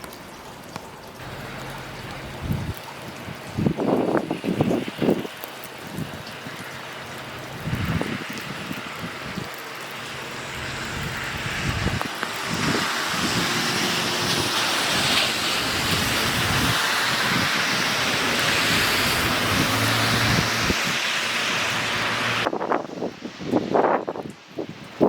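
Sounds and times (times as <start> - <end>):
road traffic going by: 1.1 - 23.9.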